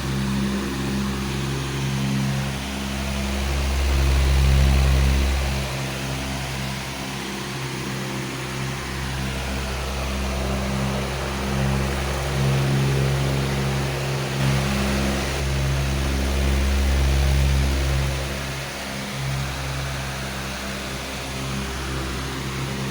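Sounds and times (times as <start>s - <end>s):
electric fan running: 0.0s - 22.9s.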